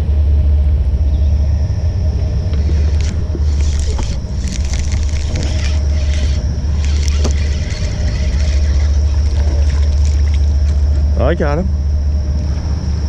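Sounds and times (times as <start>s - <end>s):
faint high whine: 0.0s - 13.0s
boat motor running: 1.7s - 13.0s.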